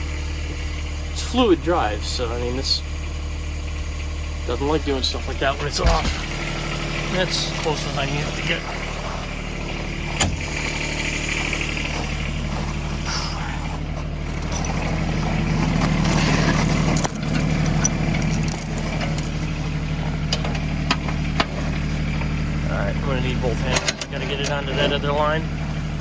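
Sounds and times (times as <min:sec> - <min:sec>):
loader engine running: 0:00.0 - 0:26.0.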